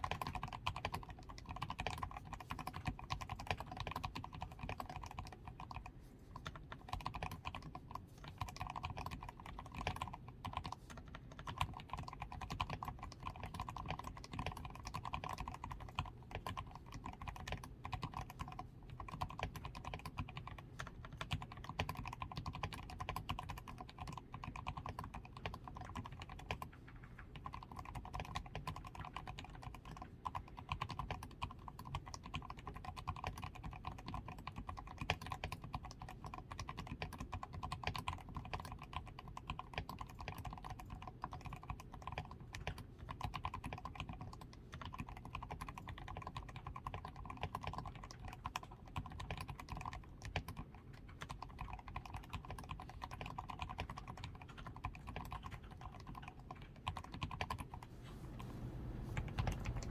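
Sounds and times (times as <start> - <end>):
typing on mechanical keyboard: 0.0 - 59.9.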